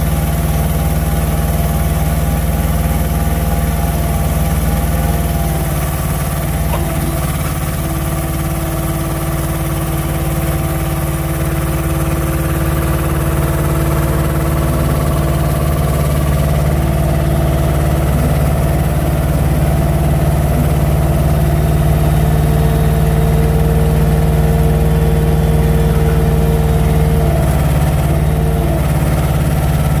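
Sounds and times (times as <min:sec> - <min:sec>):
truck diesel engine running: 0:00.0 - 0:30.0
high hydraulic whine: 0:02.9 - 0:29.9.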